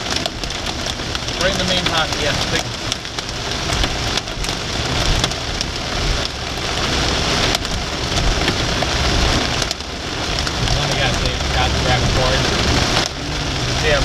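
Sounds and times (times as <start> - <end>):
car driving on wet road: 0.0 - 14.0
heavy rain on car roof: 0.0 - 14.0.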